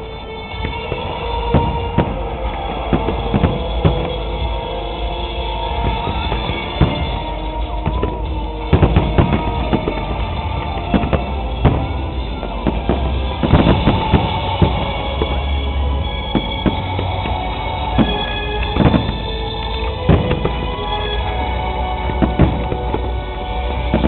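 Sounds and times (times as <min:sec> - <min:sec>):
fireworks banging: 0:00.0 - 0:24.0
loud music: 0:00.0 - 0:24.0.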